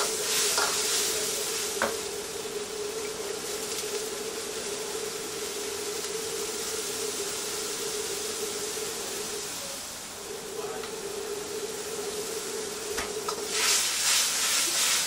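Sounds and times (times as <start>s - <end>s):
gas flame hissing: 0.0s - 15.0s
steady hum: 0.0s - 15.0s.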